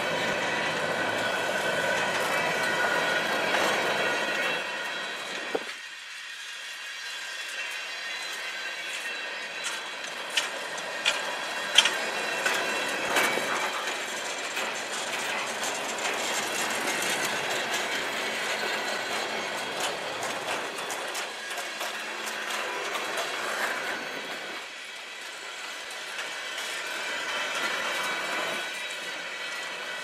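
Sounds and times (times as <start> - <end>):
train wheels clacking: 0.0 - 5.8, 7.0 - 30.0
freight train rolling on steel wheels: 0.0 - 30.0.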